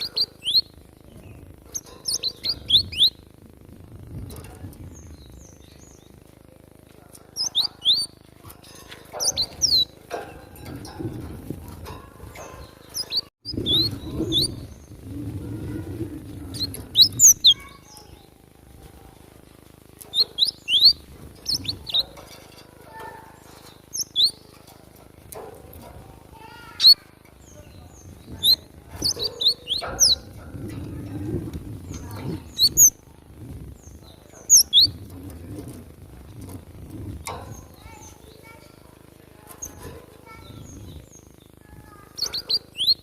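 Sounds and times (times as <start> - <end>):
birds chirping sharply: 0.0 - 3.3, 7.1 - 43.0
low background rumble: 0.0 - 43.0.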